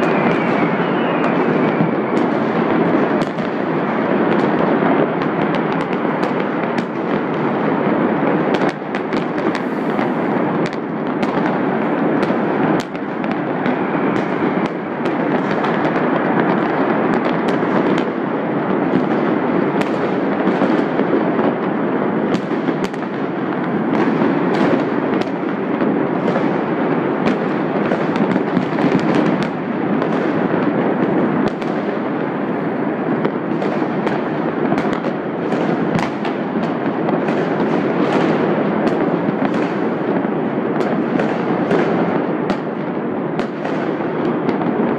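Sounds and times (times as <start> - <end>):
fireworks crackle: 0.0 - 44.9
fireworks popping and banging: 0.0 - 44.9.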